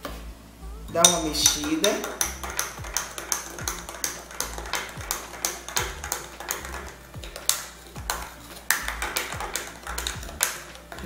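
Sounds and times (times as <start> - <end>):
spoon clinking in glass: 1.0 - 11.0.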